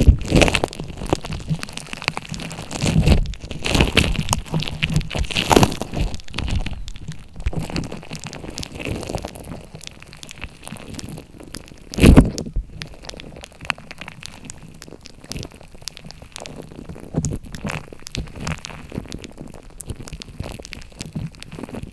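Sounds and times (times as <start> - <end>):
slime clicking and popping: 0.0 - 21.9
slime squelch: 0.0 - 21.9.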